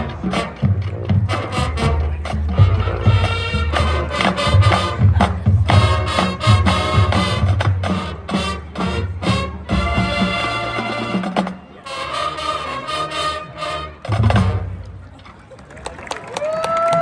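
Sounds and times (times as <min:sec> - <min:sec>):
drums: 0:00.0 - 0:15.2
marching band brass: 0:00.0 - 0:15.3.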